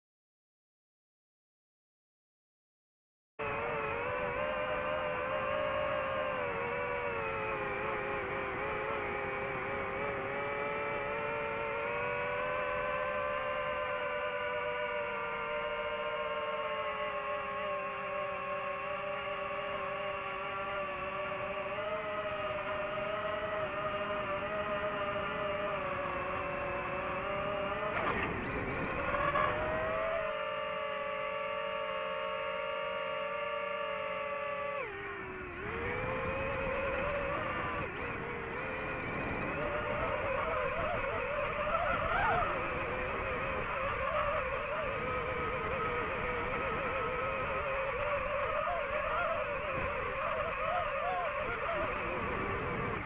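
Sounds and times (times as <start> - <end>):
drone propellers whining: 3.4 - 53.0.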